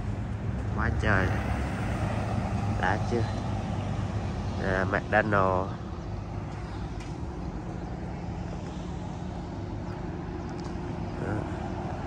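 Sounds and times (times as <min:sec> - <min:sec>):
car road and engine drone: 0:00.0 - 0:12.0.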